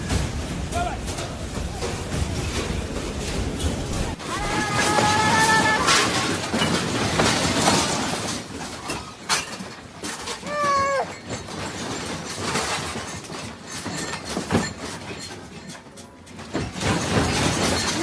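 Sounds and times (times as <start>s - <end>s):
furniture rattling and clattering: 0.0s - 18.0s.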